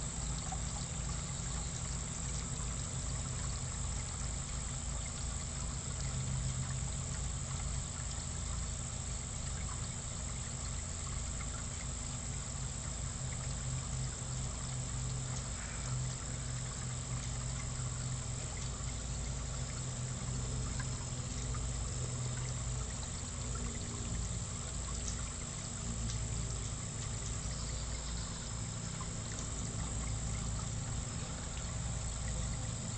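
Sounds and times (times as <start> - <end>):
continuous low rumble: 0.0 - 32.9
trickling pond water: 0.0 - 32.9.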